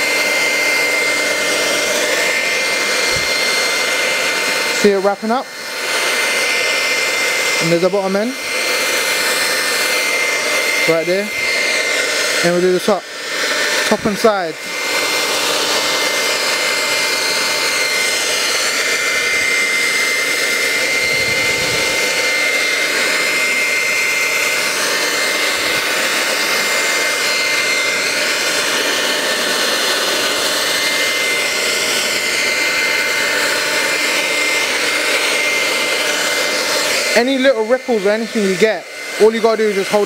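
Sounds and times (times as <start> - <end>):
hair dryer blowing: 0.0 - 40.0.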